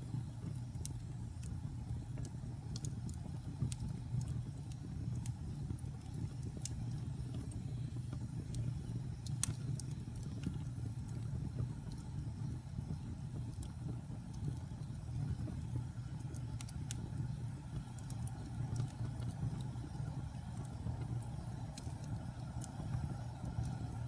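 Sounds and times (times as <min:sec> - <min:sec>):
fire crackles and pops: 0:00.0 - 0:24.0
fire flames rumbling: 0:00.0 - 0:24.0.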